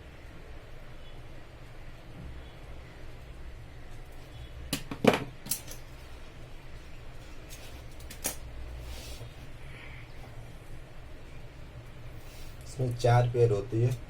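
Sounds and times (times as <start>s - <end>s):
steady low hum: 0.0s - 4.8s, 5.6s - 14.0s.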